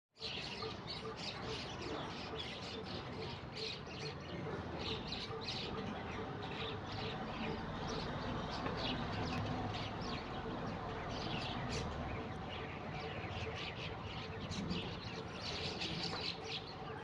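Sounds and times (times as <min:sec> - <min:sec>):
birds chirping: 0:00.2 - 0:17.0
steady background noise: 0:00.2 - 0:17.0.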